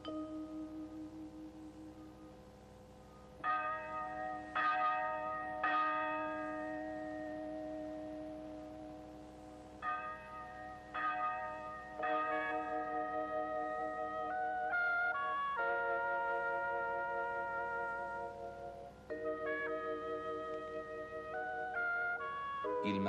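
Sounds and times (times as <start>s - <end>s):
church bell ringing: 0.0s - 23.0s.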